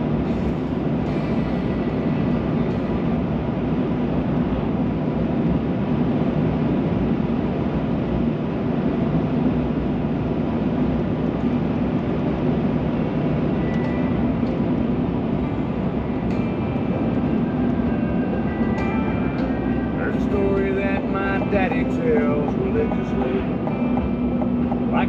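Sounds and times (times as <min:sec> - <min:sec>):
car road noise: 0:00.0 - 0:25.0.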